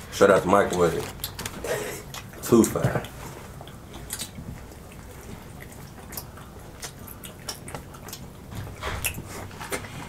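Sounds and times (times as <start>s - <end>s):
people chewing chicken wings: 0.2s - 10.0s.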